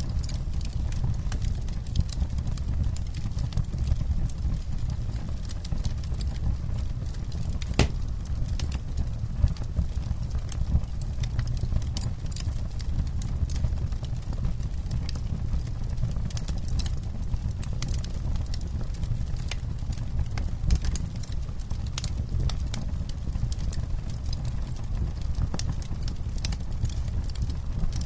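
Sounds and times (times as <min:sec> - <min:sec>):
campfire crackling: 0:00.0 - 0:28.0
fire popping and snapping: 0:00.0 - 0:28.0
low rumble of flames: 0:00.0 - 0:28.0.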